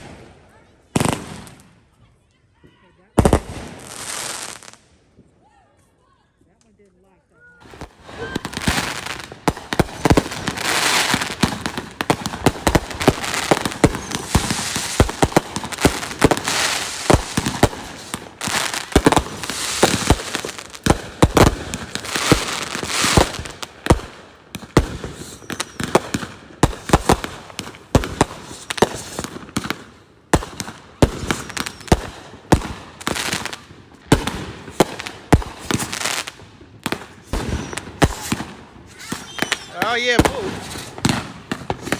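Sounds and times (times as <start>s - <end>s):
fireworks banging and crackling: 0.0s - 5.3s, 7.6s - 41.9s.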